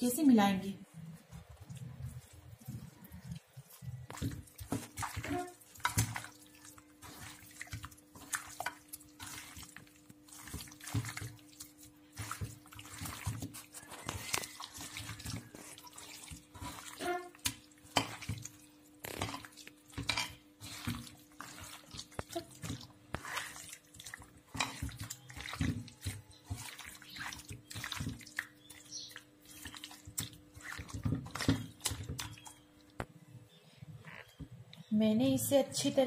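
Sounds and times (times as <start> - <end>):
hand squelching wet marinade: 1.0 - 33.0.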